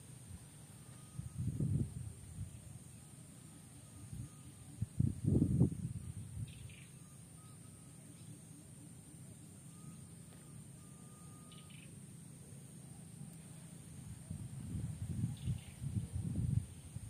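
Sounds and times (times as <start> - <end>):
low background noise: 0.0 - 17.0
faint bird chirps: 0.3 - 17.0.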